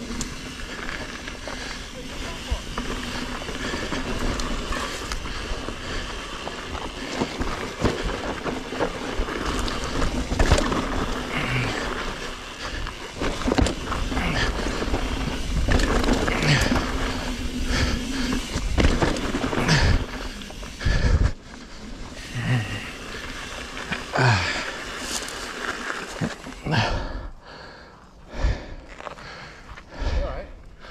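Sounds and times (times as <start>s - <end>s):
bike knocking and rattling: 0.0s - 27.0s
bike tyres crunching over dirt: 0.0s - 30.9s.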